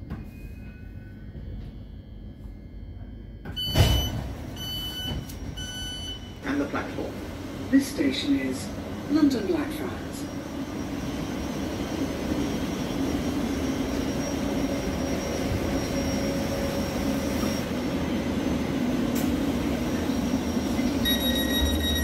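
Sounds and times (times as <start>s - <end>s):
train equipment hum and ventilation: 0.0s - 22.0s.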